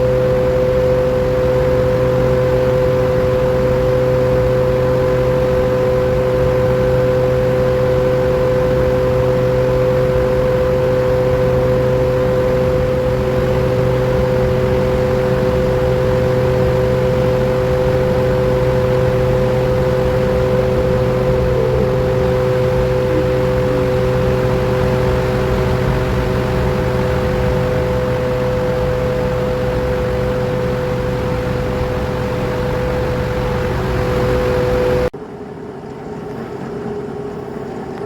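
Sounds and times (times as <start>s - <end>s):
electric motor humming and whining: 0.0s - 35.1s.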